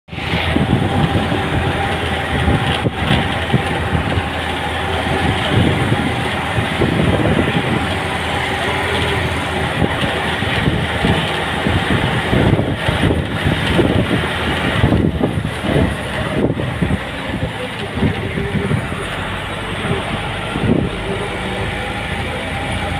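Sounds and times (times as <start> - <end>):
wind flutter on microphone: 0.1 - 21.5
vehicle engine and tyre noise: 0.1 - 22.9.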